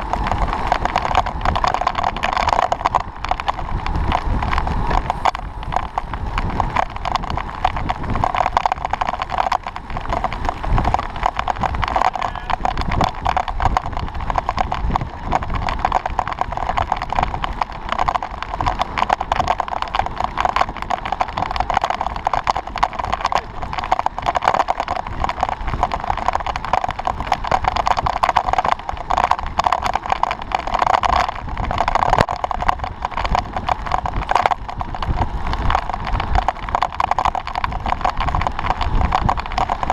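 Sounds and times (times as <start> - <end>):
muffled wind rushing: 0.0 - 39.9
small rattles and knocks: 0.0 - 39.9.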